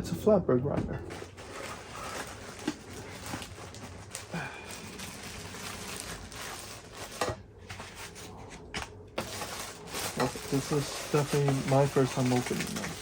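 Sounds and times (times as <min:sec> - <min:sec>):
cardboard packaging rustling: 0:01.1 - 0:13.0.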